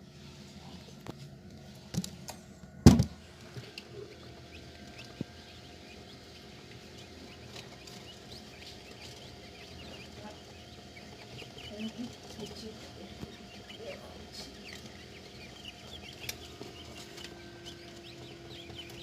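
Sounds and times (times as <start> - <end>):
chicks cheeping: 3.3 - 19.0.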